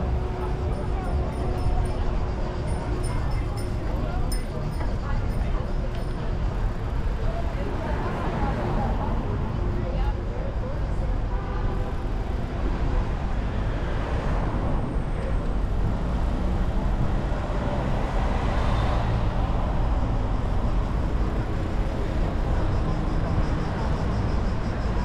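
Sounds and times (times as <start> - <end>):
hum of passing cars: 0.0 - 25.0.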